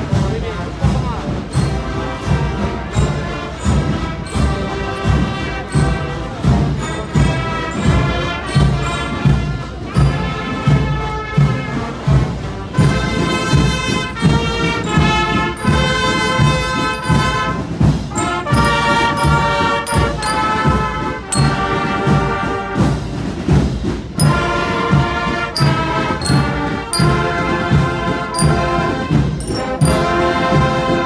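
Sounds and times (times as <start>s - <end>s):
steady drum beats: 0.0s - 31.0s
sustained brass notes: 2.2s - 23.0s, 24.2s - 31.0s.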